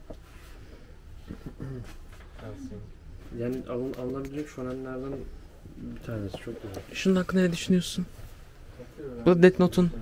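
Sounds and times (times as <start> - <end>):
low room rumble: 0.0 - 10.0.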